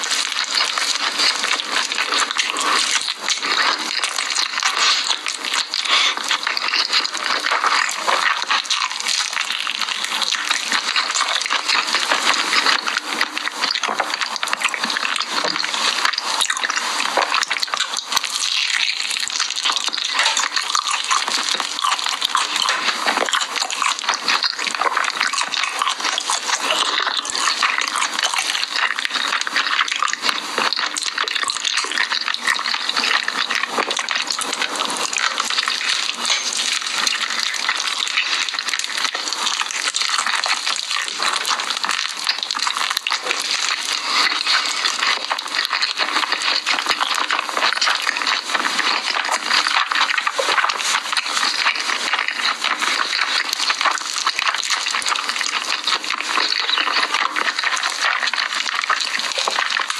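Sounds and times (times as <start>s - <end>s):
crunching fried chicken: 0.0s - 59.9s.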